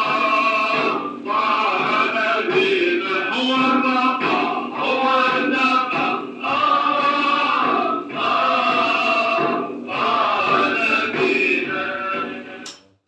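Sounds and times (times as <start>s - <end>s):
men chanting together: 0.0s - 12.6s.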